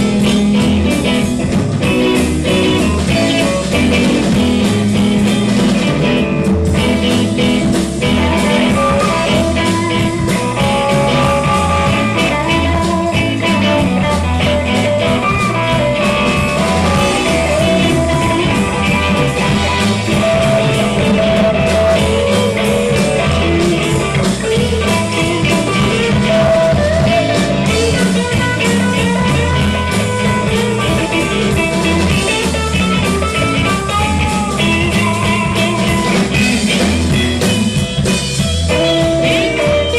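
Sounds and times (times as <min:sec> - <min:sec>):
blues-rock band playing: 0:00.0 - 0:39.9
electric guitar lead with bent notes: 0:00.0 - 0:39.9.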